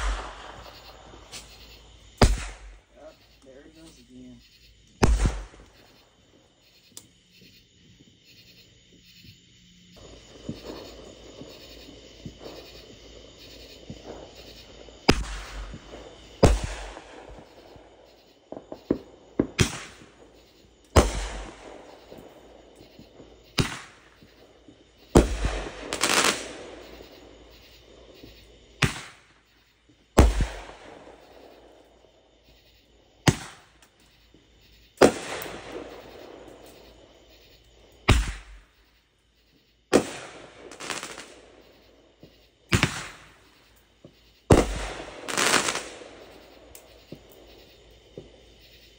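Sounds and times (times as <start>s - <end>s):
fireworks banging: 0.0s - 4.4s, 5.0s - 6.0s, 10.0s - 32.0s, 33.2s - 37.2s, 38.0s - 38.8s, 39.9s - 48.4s
fireworks crackling and hissing: 0.0s - 9.4s, 10.0s - 48.9s.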